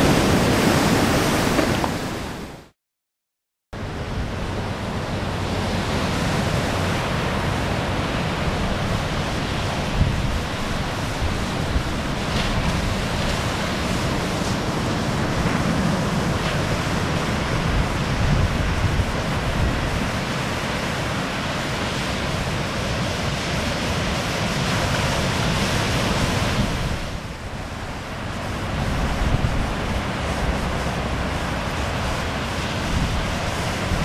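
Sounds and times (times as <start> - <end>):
ocean surf breaking: 0.0 - 2.7, 3.9 - 34.0
wind rumbling on microphone: 3.8 - 34.0.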